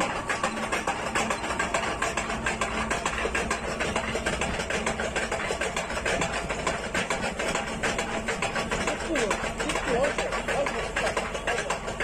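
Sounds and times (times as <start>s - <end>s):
machine ram knocking: 0.0s - 12.0s
steady machine drone: 0.0s - 12.0s.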